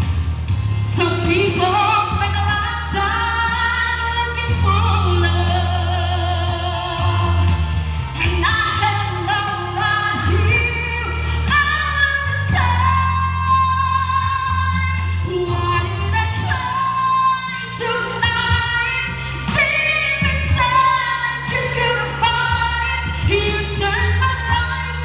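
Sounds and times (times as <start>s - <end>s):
music accompaniment with bass: 0.0s - 25.0s
woman singing slow melody: 0.8s - 7.6s, 8.2s - 25.0s.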